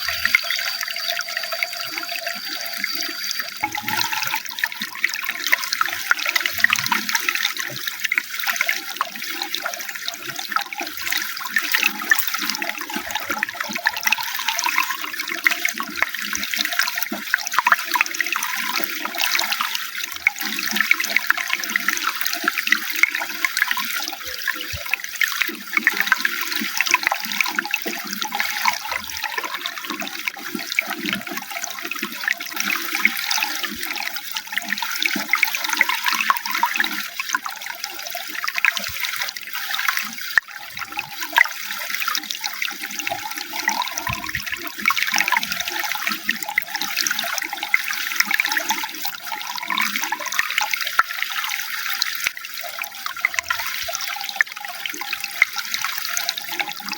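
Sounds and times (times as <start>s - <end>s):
running water: 0.0s - 56.9s.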